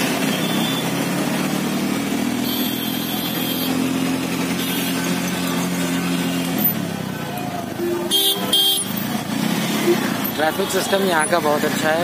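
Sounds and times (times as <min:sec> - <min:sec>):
auto-rickshaw engine humming: 0:00.0 - 0:12.0.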